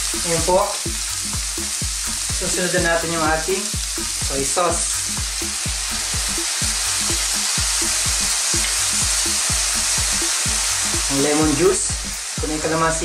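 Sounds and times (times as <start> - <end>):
background music with low beat: 0.0 - 13.0
liver sizzling in a wok: 0.0 - 13.0.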